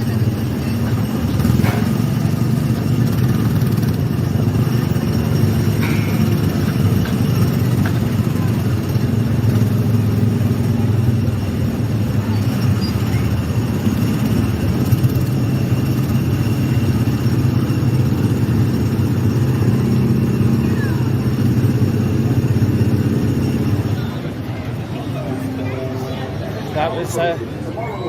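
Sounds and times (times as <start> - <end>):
small gasoline engine running: 0.0 - 25.9.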